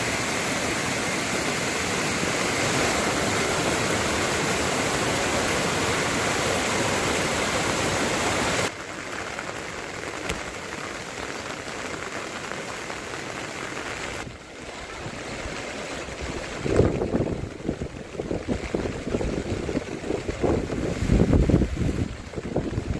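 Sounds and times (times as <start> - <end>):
heavy rain falling: 0.0 - 22.9.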